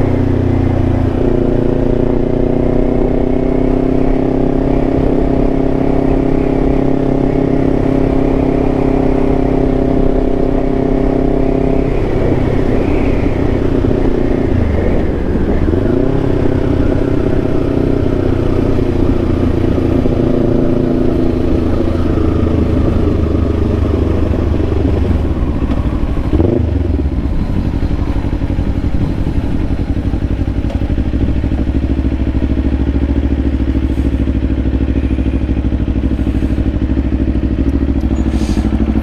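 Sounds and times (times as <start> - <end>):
motorcycle engine slowing to idle: 7.3 - 39.0.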